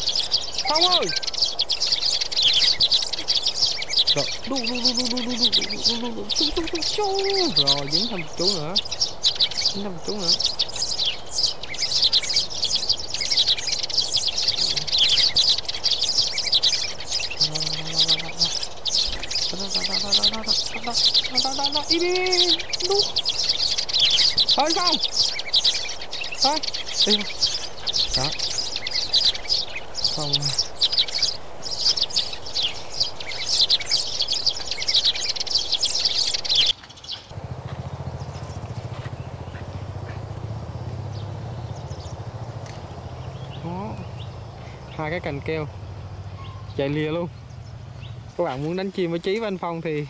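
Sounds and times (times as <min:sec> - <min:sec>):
sparrows chirping: 0:00.0 - 0:50.0.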